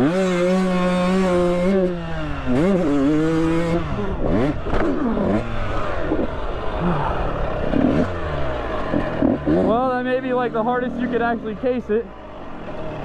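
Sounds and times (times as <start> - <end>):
two-stroke dirt bike engine revving: 0.0 - 13.0.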